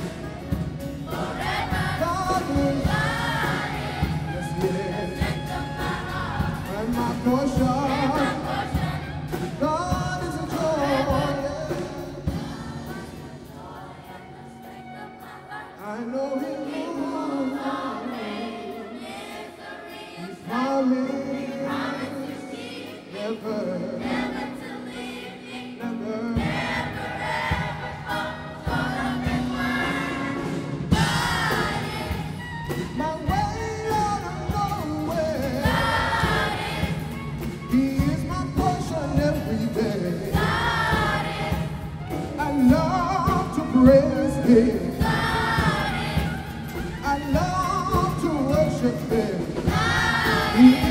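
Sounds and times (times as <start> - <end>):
children's choir singing gospel: 0.0 - 50.9
instrumental backing: 0.0 - 50.9.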